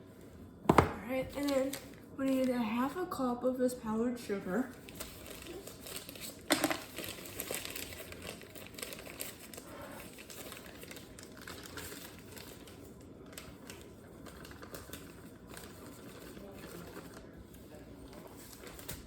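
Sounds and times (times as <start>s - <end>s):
sugar bag crinkling: 1.3s - 2.9s, 4.6s - 19.0s.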